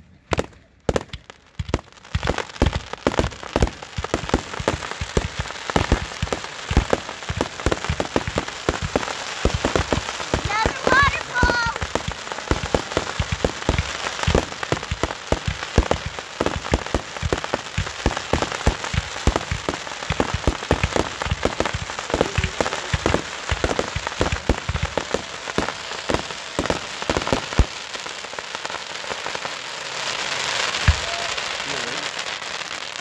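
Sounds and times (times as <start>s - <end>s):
fireworks crackling: 0.0s - 33.0s
firework bangs: 0.2s - 33.0s.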